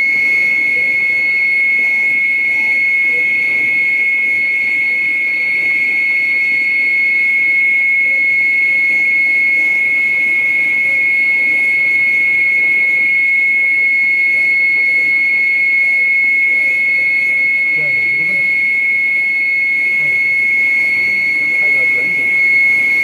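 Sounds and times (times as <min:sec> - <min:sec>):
high-pitched whine: 0:00.0 - 0:23.0.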